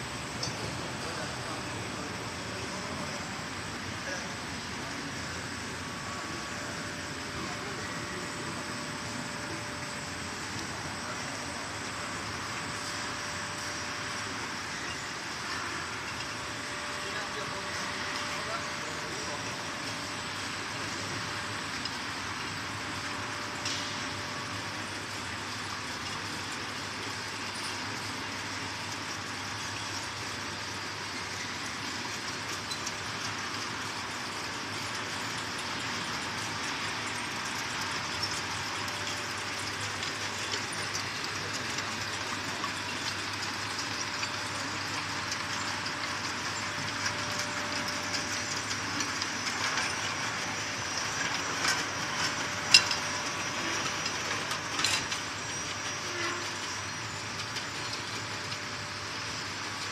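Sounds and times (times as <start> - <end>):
bottling machines hissing and humming: 0.0 - 59.9.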